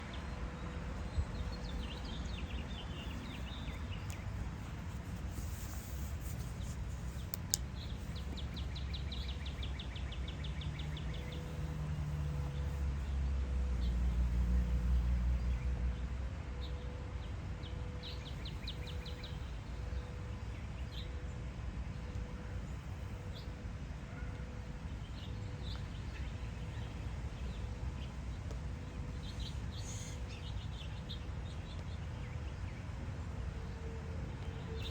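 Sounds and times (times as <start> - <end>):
garden birds chirping and trilling: 0.0 - 34.9.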